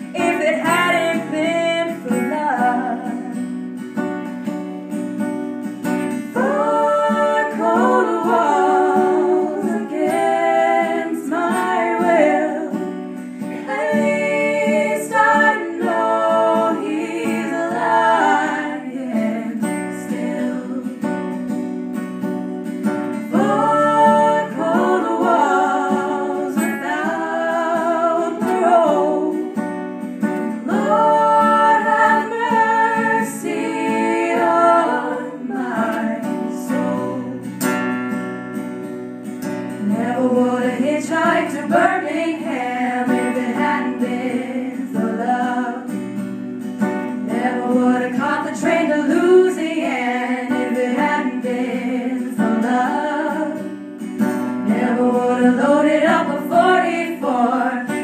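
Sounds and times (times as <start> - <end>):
women singing with vibrato: 0.0 - 3.6, 6.1 - 21.3, 23.1 - 29.8, 30.4 - 37.5, 39.8 - 46.3, 47.1 - 58.0
acoustic guitar strumming: 0.0 - 58.0.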